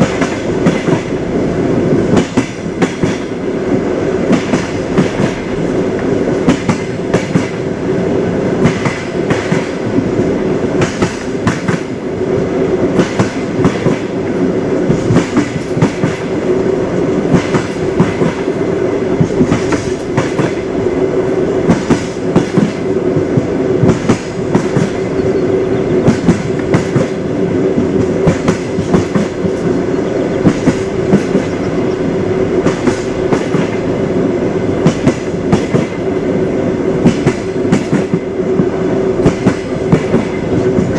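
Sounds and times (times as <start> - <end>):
train wheels clattering on rails: 0.0 - 34.0, 34.8 - 40.9.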